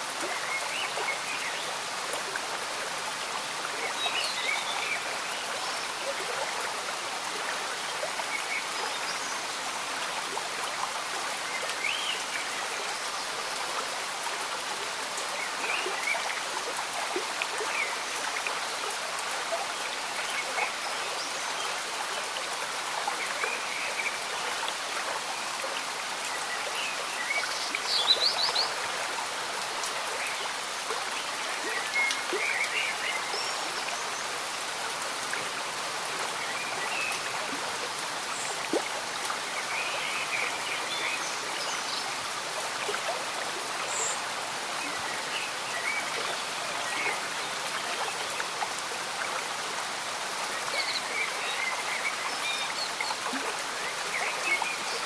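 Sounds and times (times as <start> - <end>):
gentle rain: 0.0 - 55.0
stream bubbling and gurgling: 0.0 - 55.0.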